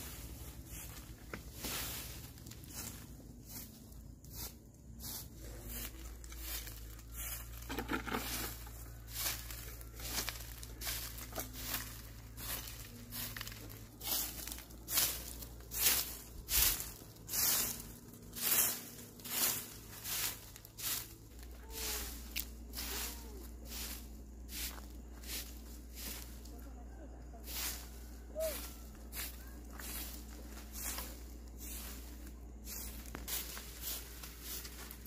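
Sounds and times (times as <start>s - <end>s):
broom sweeping leaves: 0.0s - 35.0s.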